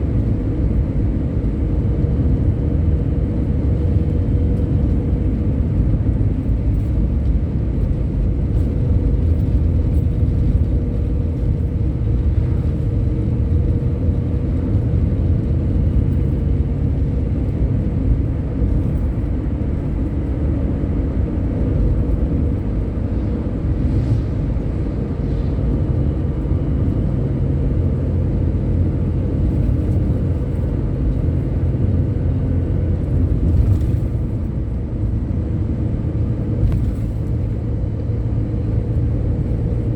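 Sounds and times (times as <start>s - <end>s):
road vehicle rumble: 0.0s - 39.9s.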